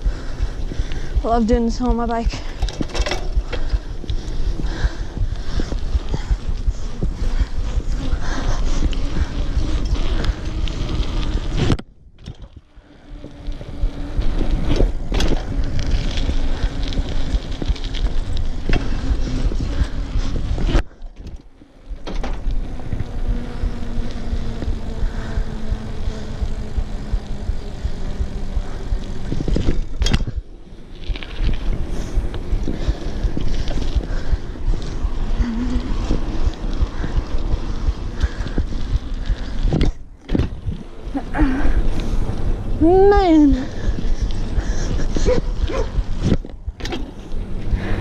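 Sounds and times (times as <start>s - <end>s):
bike rattling over pavement: 0.0s - 48.0s
wind rushing over microphone: 0.0s - 48.0s.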